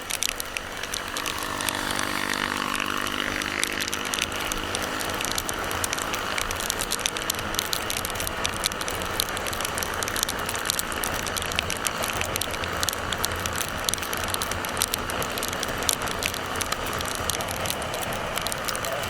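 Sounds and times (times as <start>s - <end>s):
motorcycle engine and wind noise: 0.0s - 19.0s
sharp irregular ticks: 0.0s - 19.0s.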